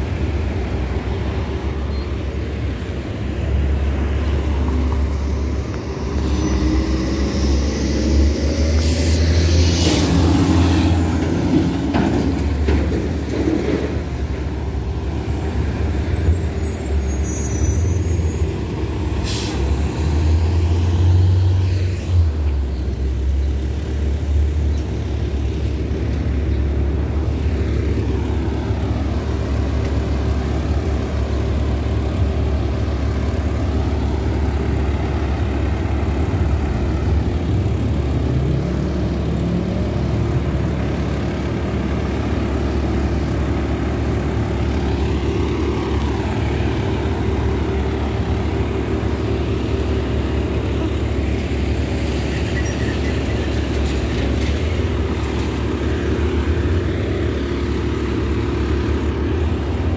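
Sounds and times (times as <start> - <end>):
coach engine accelerating: 0.0 - 59.9
diesel bus engines and traffic: 0.0 - 59.9.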